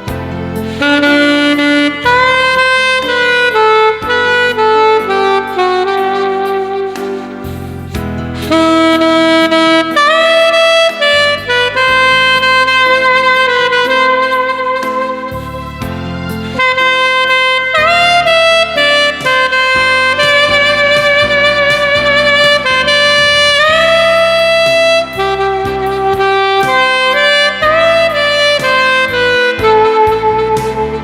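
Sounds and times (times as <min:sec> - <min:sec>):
alto saxophone ballad melody: 0:00.0 - 0:31.0
backing track: 0:00.0 - 0:31.0.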